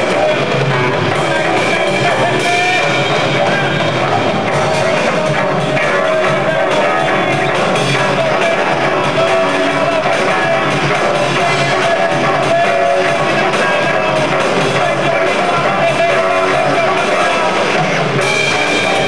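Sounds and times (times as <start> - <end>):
electric guitars: 0.0 - 19.0
loud live rock band: 0.0 - 19.0.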